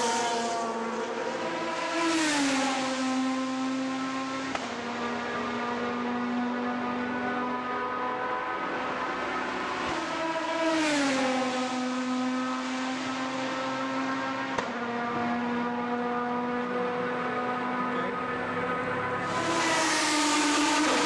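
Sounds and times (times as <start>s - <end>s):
race car engine passing: 0.0s - 21.0s.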